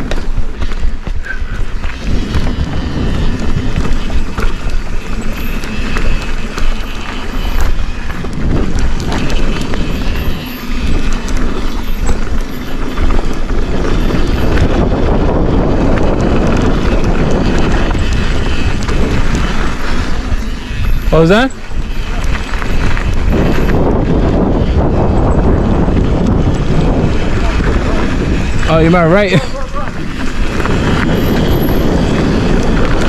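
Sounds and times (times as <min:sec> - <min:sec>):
bike rattling with clicks: 0:00.0 - 0:33.0
bike tyres rumbling on dirt: 0:00.0 - 0:33.0
wind buffeting microphone: 0:00.0 - 0:33.0.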